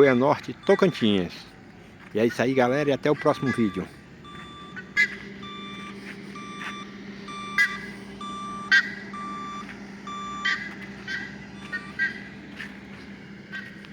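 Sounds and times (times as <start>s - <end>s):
low engine hum: 0.0s - 13.9s
truck reversing alarm beeping: 0.0s - 13.9s
sharp chirps: 2.6s - 13.9s.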